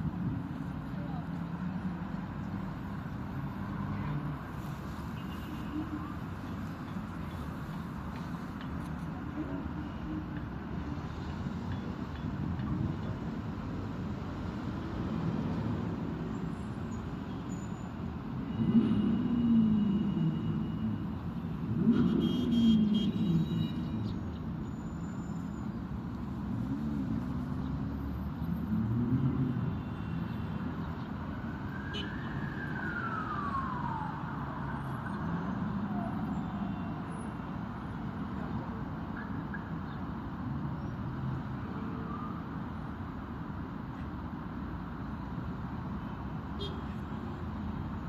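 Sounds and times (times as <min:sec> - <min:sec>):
vehicles passing: 0:00.0 - 0:48.0.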